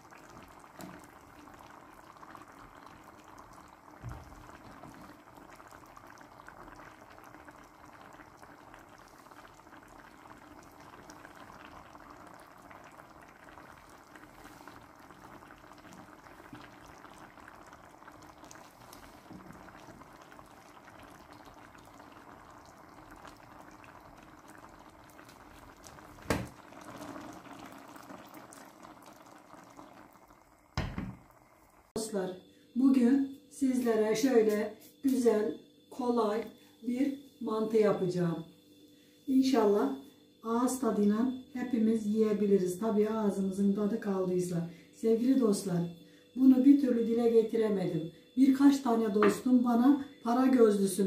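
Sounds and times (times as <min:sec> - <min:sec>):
sauce bubbling in a pan: 0:00.0 - 0:33.5, 0:38.5 - 0:47.2.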